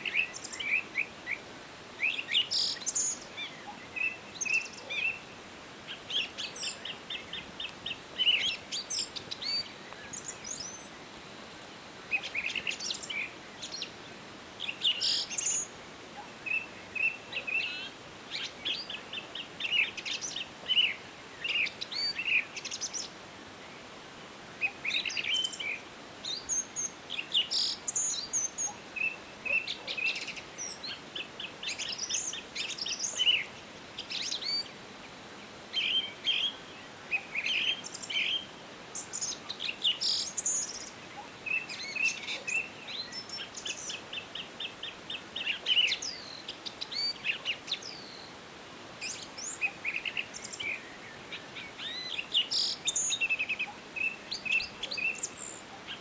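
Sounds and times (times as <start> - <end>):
faint background hiss: 0.0 - 56.0
songbirds singing and trilling: 0.0 - 56.0.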